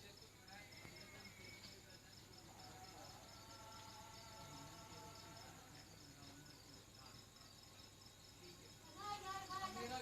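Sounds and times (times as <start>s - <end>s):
faint insect chirping: 0.0s - 10.0s.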